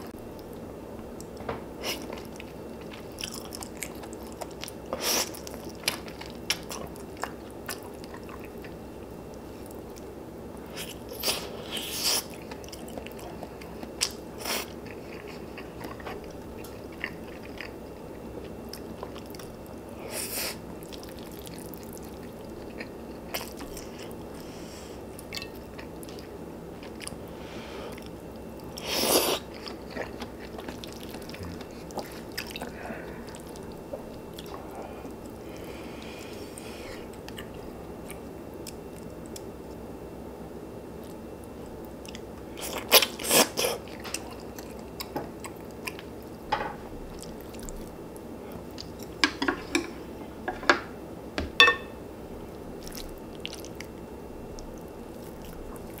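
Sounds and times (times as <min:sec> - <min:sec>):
chewing and crunching food: 0:00.0 - 0:40.0, 0:40.8 - 0:50.1, 0:52.4 - 0:56.0.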